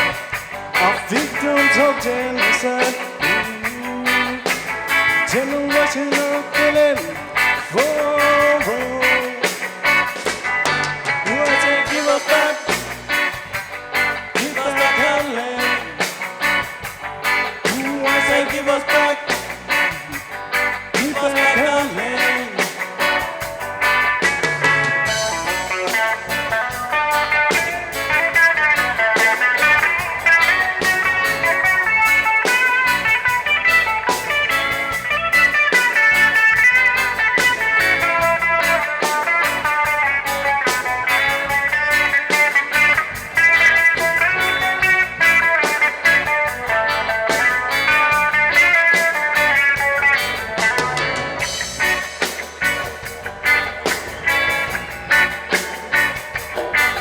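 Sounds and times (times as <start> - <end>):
reggae band playing live: 0.0 - 57.0.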